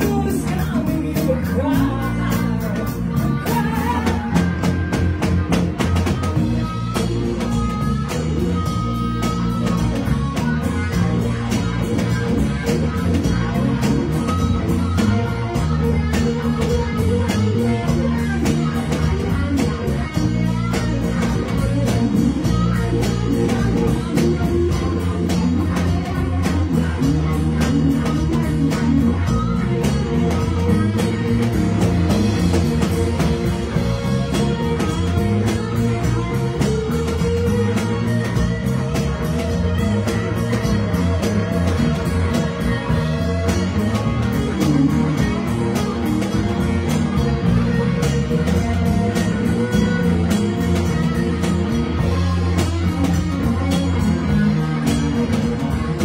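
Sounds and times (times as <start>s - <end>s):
bass guitar: 0.0s - 56.0s
drum kit: 0.0s - 56.0s
electric guitar lead: 0.0s - 56.0s.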